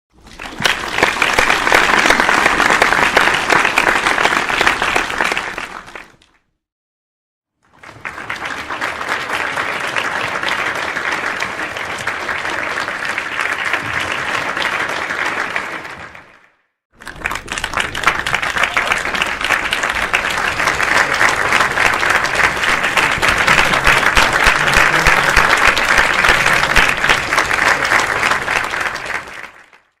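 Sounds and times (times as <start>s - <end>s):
crowd applause: 0.2s - 6.3s, 7.7s - 30.0s.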